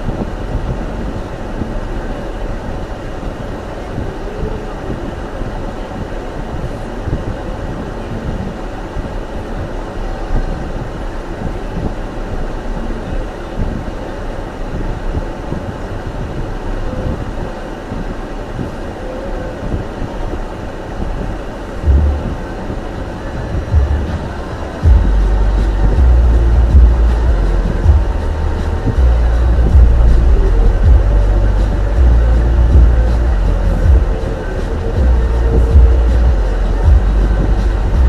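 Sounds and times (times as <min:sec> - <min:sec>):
road and tyre rumble: 0:00.0 - 0:38.0.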